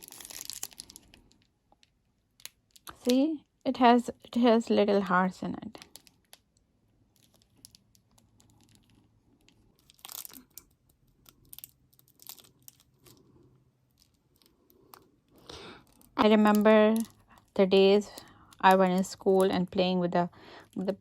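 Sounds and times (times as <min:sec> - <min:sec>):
plastic bag crinkling: 0:00.0 - 0:03.2, 0:05.6 - 0:21.0.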